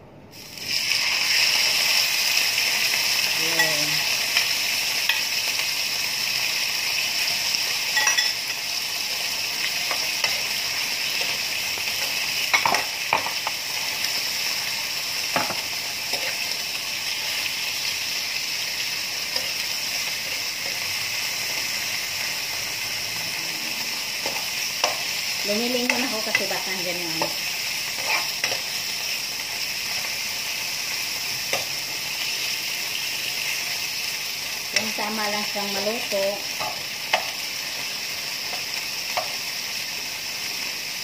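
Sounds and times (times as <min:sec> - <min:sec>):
chicken sizzling in frying pan: 0:00.3 - 0:41.0.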